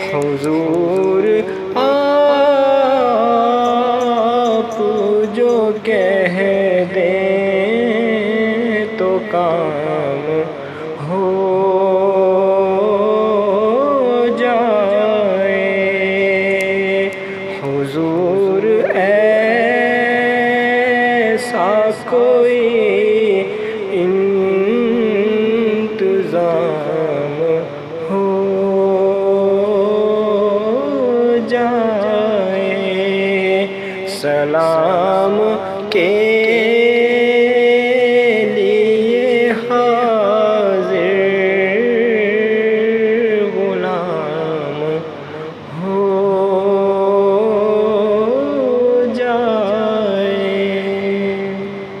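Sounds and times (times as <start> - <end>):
person singing wordless chant: 0.0 - 52.0.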